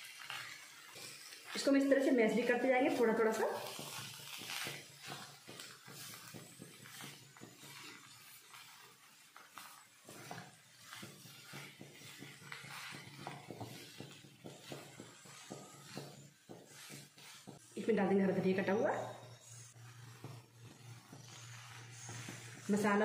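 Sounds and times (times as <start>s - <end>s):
spatula scraping a pan: 0.0s - 23.0s.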